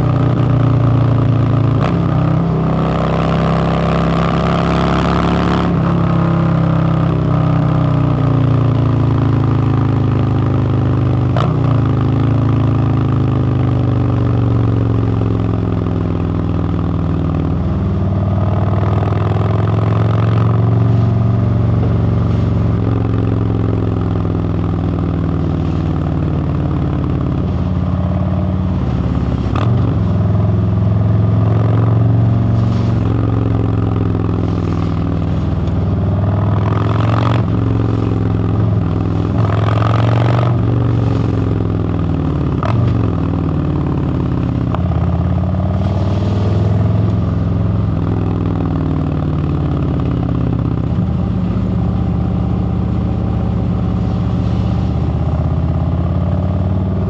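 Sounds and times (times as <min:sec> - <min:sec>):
motorcycle engine at highway speed: 0:00.0 - 0:57.0
wind and road noise: 0:00.0 - 0:57.0.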